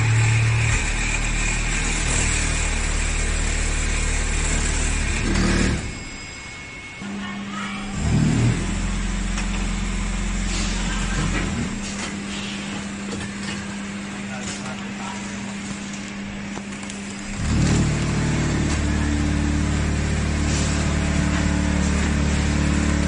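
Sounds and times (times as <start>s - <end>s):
packing machine humming: 0.0s - 23.0s.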